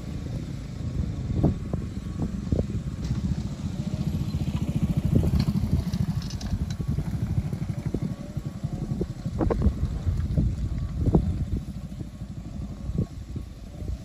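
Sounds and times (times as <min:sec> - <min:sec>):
motorcycle passing close: 0:00.0 - 0:14.0
truck engine rumble: 0:00.0 - 0:14.0.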